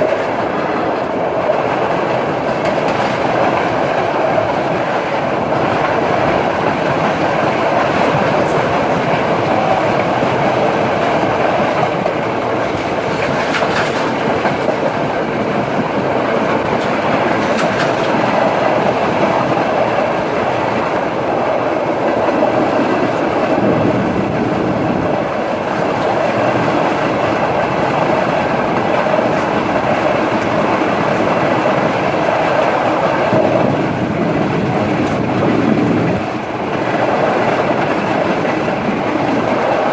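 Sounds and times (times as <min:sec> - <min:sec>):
train carriages rumbling: 0:00.0 - 0:39.9
wheel clatter on rails: 0:00.0 - 0:39.9.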